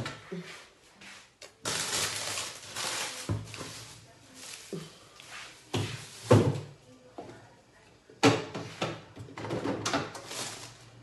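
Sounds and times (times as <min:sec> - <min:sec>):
groceries rustling and clattering: 0:00.0 - 0:11.0.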